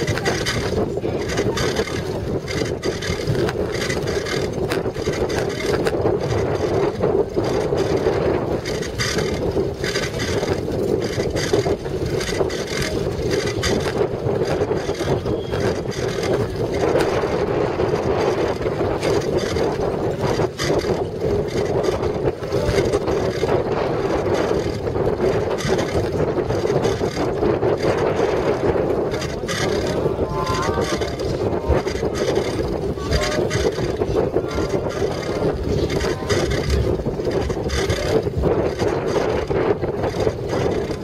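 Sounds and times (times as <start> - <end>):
bike clicks and rattles: 0.0 - 41.0
tyres rumbling on rough dirt: 0.0 - 41.0
wind buffeting microphone: 0.0 - 41.0.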